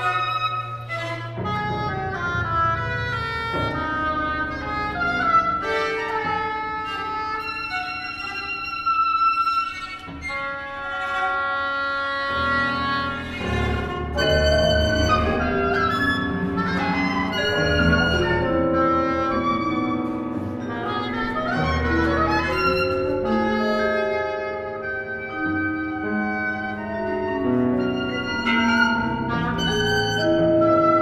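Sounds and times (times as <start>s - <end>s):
chamber ensemble music: 0.0s - 31.0s.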